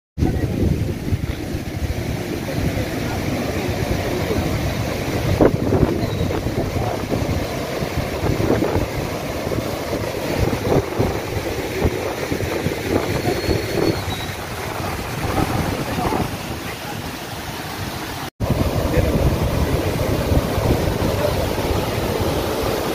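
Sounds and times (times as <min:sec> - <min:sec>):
water rushing over weir: 0:00.2 - 0:22.9
wind buffeting microphone: 0:00.2 - 0:22.9.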